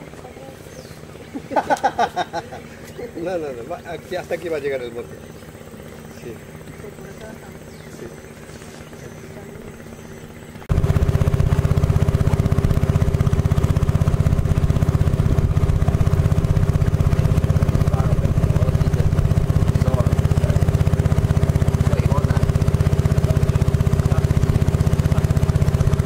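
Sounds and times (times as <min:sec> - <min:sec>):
boat motor droning: 0:00.0 - 0:26.0.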